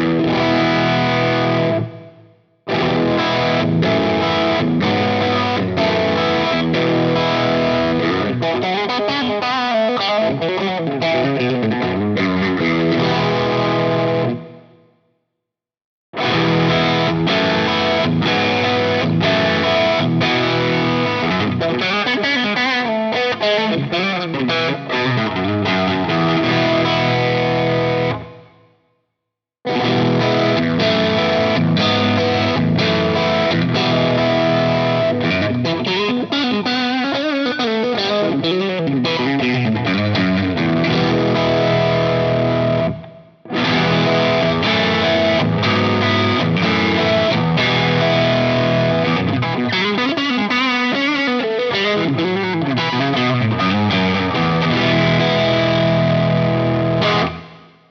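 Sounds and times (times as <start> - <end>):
distorted electric guitar: 0.0 - 15.0, 16.2 - 28.8, 29.6 - 57.9.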